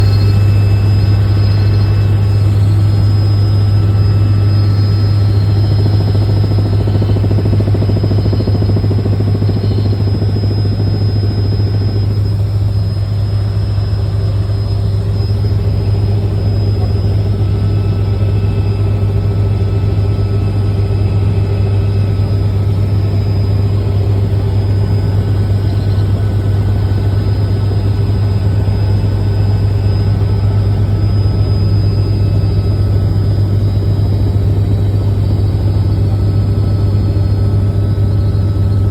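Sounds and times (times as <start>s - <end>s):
faint high whine: 0.0s - 38.9s
helicopter drone: 0.0s - 38.9s.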